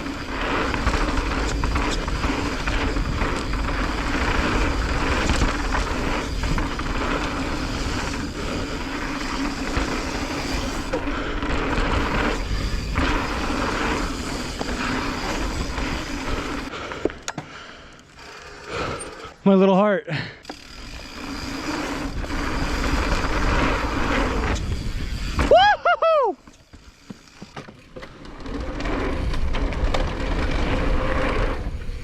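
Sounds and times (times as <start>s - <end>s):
bike rattling over bumps: 0.0s - 19.4s, 20.4s - 25.8s, 26.4s - 32.0s
bike tyres rolling on dirt: 0.0s - 32.0s.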